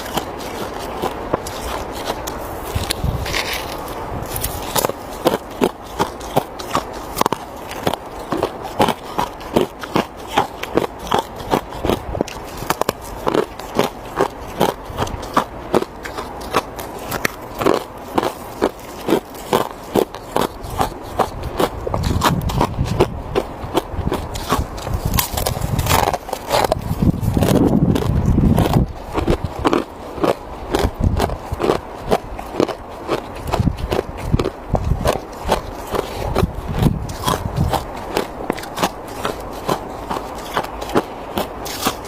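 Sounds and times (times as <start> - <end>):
ice crunched between teeth: 0.0 - 42.0.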